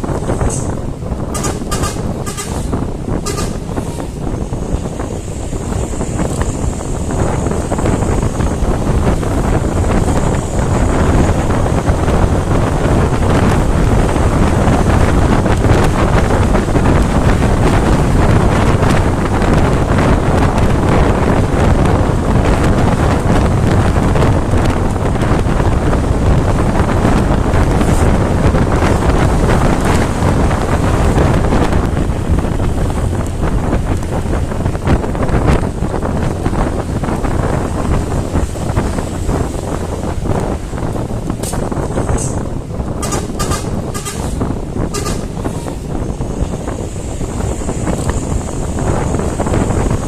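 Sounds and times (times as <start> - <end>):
truck engine and road noise: 0.0 - 50.0
wind buffeting microphone: 0.0 - 50.0.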